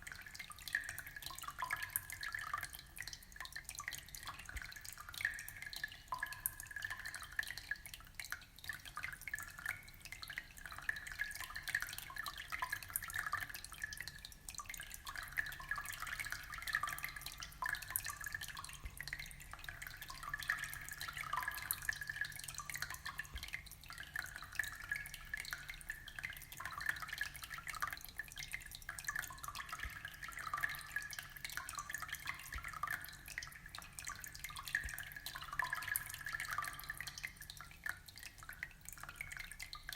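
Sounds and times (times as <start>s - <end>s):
aquarium water trickling and dripping: 0.0s - 39.9s.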